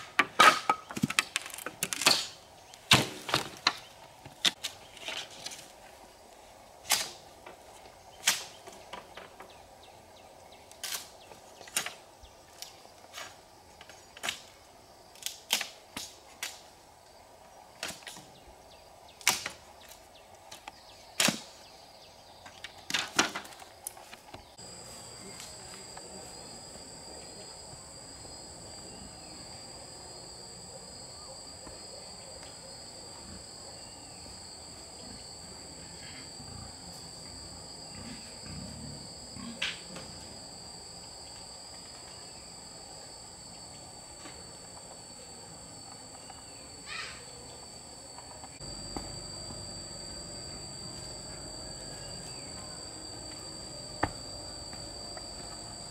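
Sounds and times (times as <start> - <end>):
high-pitched insect trill: 0.0 - 55.9.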